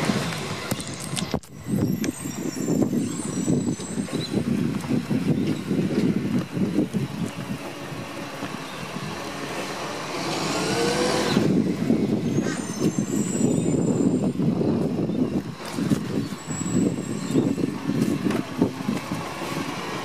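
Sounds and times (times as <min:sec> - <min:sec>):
garbage truck rumbling: 0:00.0 - 0:20.0
wind buffeting microphone: 0:00.0 - 0:20.0.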